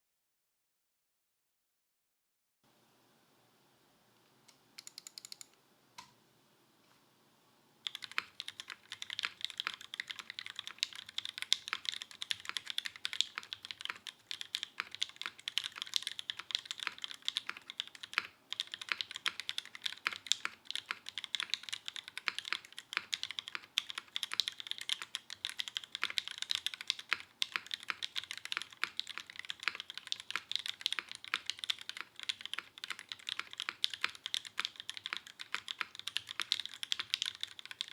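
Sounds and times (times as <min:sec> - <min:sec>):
fast mechanical keyboard typing: 0:04.8 - 0:05.5, 0:07.8 - 0:37.9.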